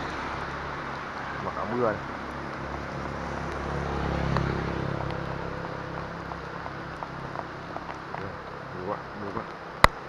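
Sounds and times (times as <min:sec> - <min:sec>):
heavy rain hiss: 0:00.0 - 0:09.9
motorbike engine humming: 0:00.0 - 0:10.0.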